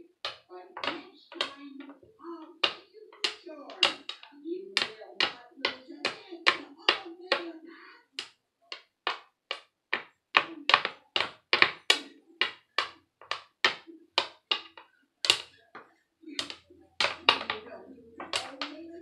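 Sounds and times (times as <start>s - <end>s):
sharp hand claps: 0.0s - 19.0s.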